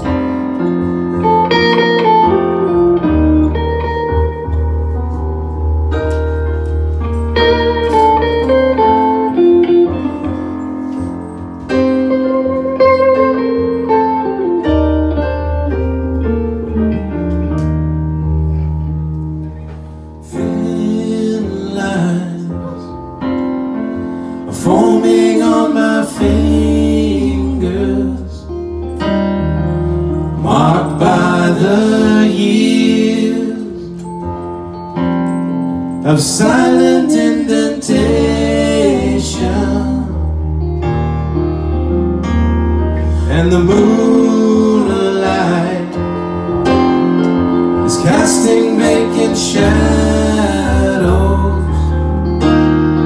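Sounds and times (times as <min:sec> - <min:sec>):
electric guitar: 0:00.0 - 0:53.0
keyboard: 0:00.0 - 0:53.0.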